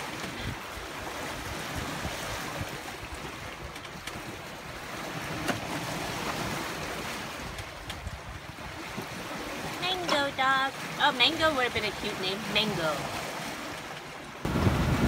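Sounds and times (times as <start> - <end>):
sea water and wind rushing: 0.0 - 15.0.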